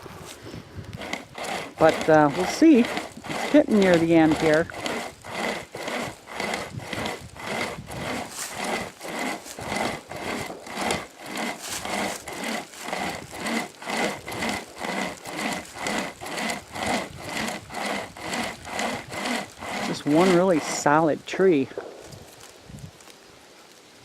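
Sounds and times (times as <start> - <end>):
hand chainsaw rasping through wood: 0.0 - 22.5.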